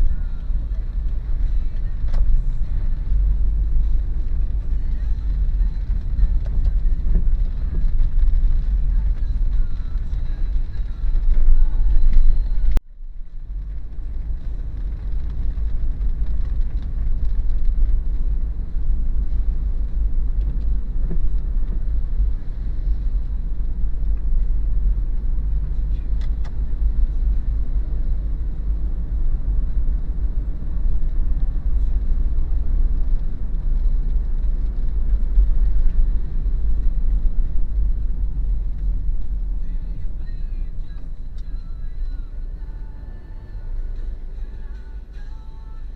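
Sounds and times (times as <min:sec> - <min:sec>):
car engine and tyre noise: 0:00.0 - 0:45.9.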